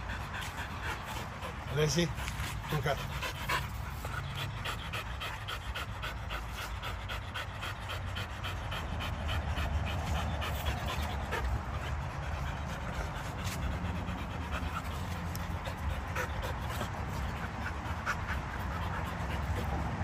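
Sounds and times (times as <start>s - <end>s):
dog panting hard: 0.0s - 20.0s.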